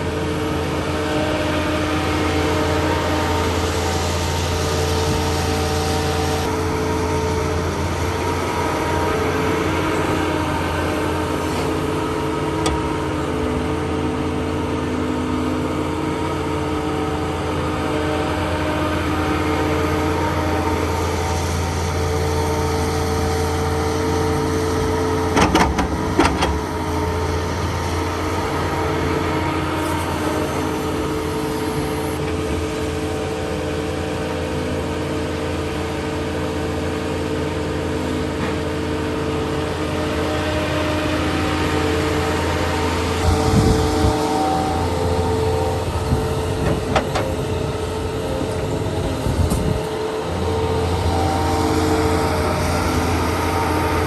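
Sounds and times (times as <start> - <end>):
diesel machinery running: 0.0 - 54.0.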